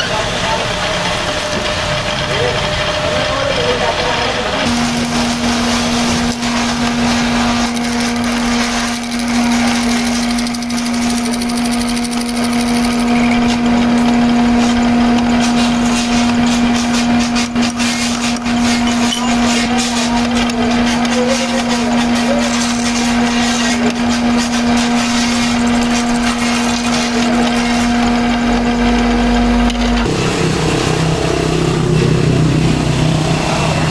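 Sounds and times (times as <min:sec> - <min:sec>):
lathe motor humming: 0:00.0 - 0:33.9
lathe tool cutting wood: 0:00.0 - 0:33.9.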